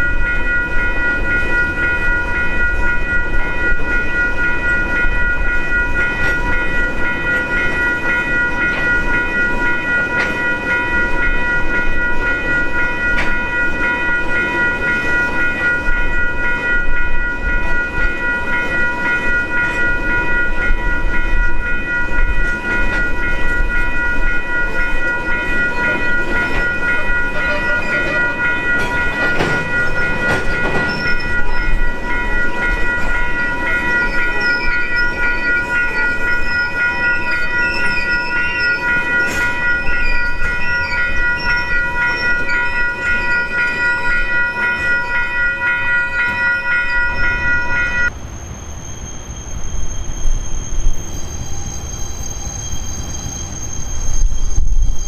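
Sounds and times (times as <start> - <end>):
high-pitched ringing tones: 0.0 - 55.0
train wheels rumbling and clacking: 0.0 - 55.0.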